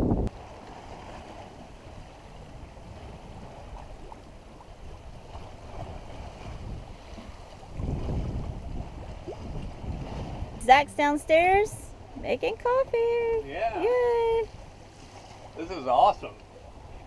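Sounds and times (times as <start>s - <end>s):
wind buffeting microphone: 0.0s - 15.7s
sea washing along hull: 0.0s - 17.0s.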